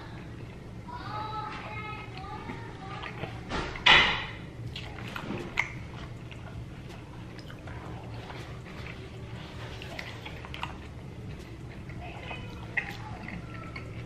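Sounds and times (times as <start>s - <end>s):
chewing with wet clicks: 1.5s - 14.0s.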